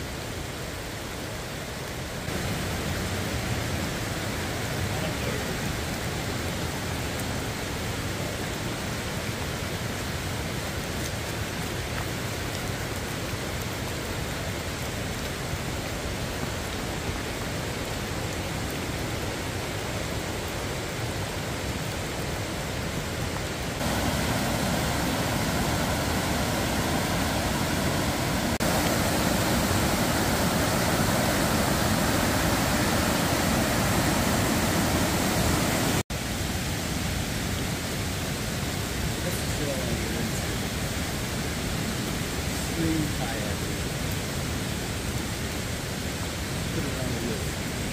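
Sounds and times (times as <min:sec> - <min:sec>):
mountain stream over rapids: 0:00.0 - 0:47.9
rain: 0:00.0 - 0:47.9.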